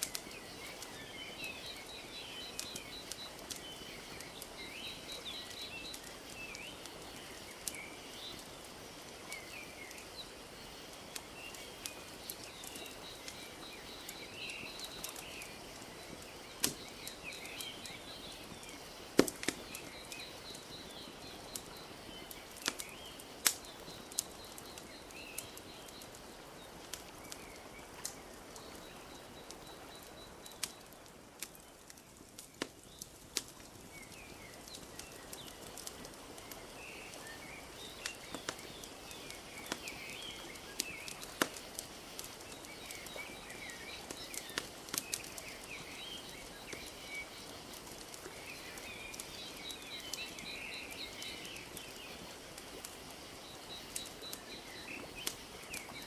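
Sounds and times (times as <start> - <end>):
birds chirping: 0.0 - 56.0
wood fire crackling: 0.0 - 56.0.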